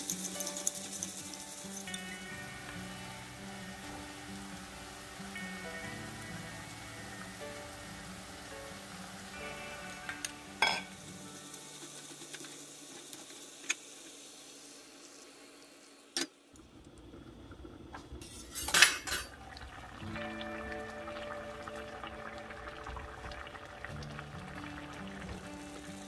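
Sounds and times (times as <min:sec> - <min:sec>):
stew sizzling in a pot: 0:00.0 - 0:26.0.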